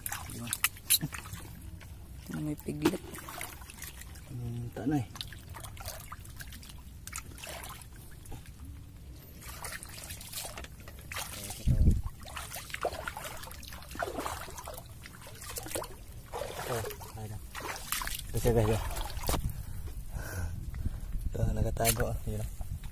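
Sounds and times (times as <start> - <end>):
seawater splashing: 0.0 - 19.5
legs wading through water: 0.0 - 19.8.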